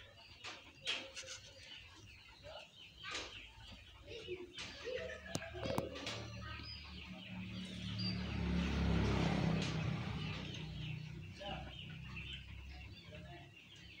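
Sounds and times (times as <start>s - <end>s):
chickens clucking: 0.0s - 14.0s
small birds chirping: 0.0s - 14.0s.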